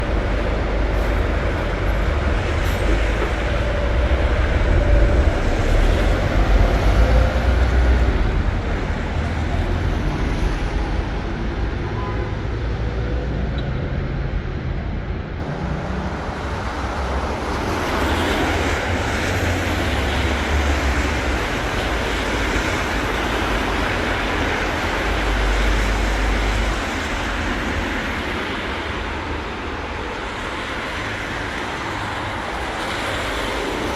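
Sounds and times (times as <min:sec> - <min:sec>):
tyres hissing on wet road: 0:00.0 - 0:11.6, 0:15.4 - 0:33.9.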